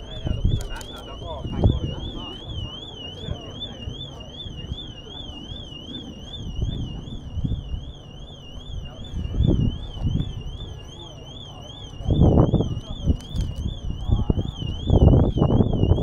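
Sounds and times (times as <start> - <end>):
car alarm warbling: 0.0 - 16.0.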